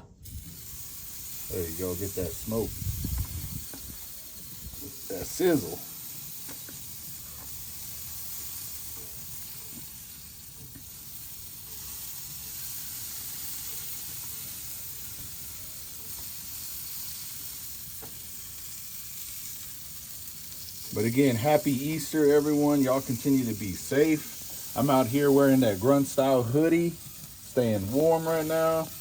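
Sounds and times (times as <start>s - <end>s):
chicken sizzling on a grate: 0.1s - 29.0s.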